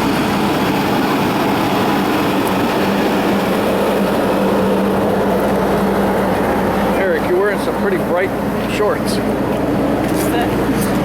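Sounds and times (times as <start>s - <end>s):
train rumble and hiss: 0.0s - 11.0s.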